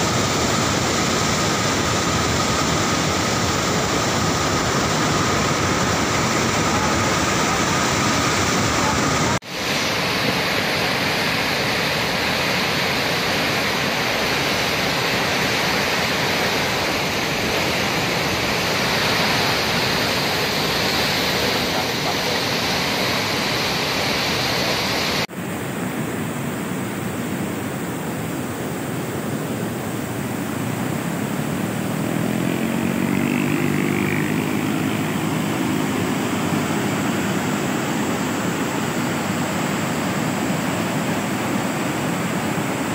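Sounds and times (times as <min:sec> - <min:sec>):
rushing flooding river: 0:00.0 - 0:42.9.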